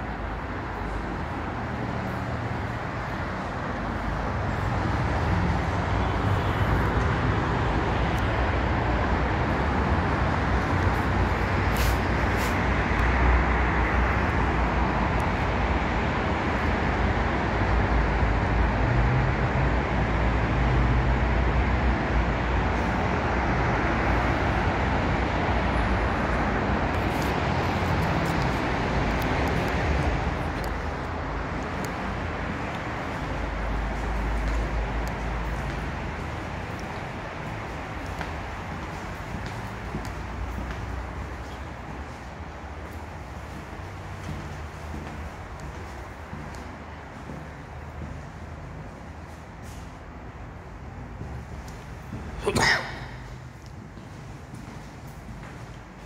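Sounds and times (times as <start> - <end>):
highway traffic: 0.0 - 56.0.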